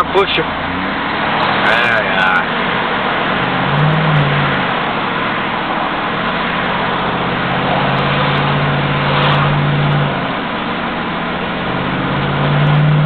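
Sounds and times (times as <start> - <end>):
road and wind noise: 0.0 - 13.0
truck engine running: 0.0 - 13.0.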